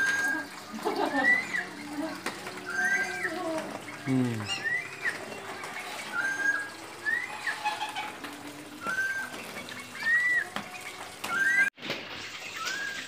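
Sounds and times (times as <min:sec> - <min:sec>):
bird whistled calls: 0:00.0 - 0:13.0.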